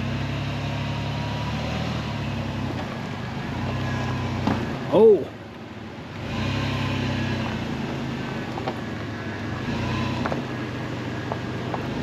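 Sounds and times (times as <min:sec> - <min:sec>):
vehicle engine running at low speed: 0:00.0 - 0:12.0.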